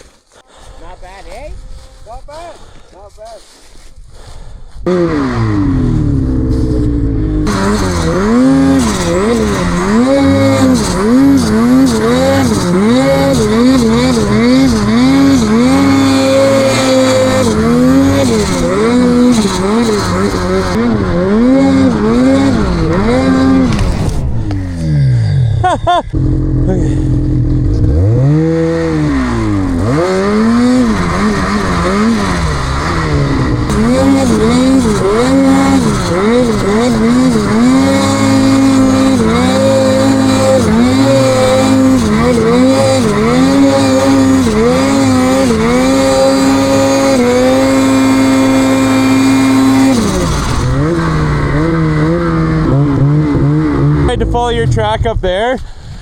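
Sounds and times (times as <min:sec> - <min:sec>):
snowmobile engine revving: 0:04.2 - 0:55.5.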